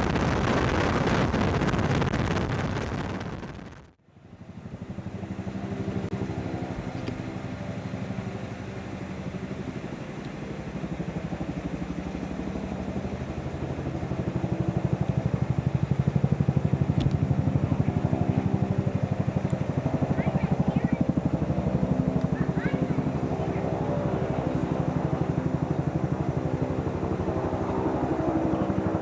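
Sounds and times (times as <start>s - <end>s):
helicopter rotor chopping: 0.0s - 29.0s
low engine drone: 0.0s - 29.0s.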